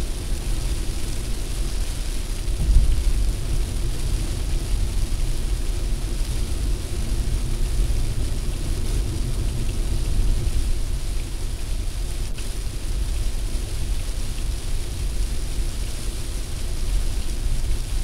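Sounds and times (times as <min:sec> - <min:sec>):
rain hiss on windshield: 0:00.0 - 0:18.0
wind noise inside car: 0:00.2 - 0:18.0.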